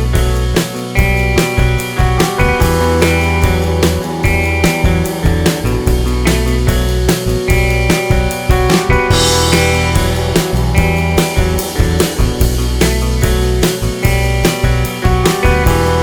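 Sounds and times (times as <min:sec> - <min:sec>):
rock music with drums bass guitar: 0:00.0 - 0:16.0.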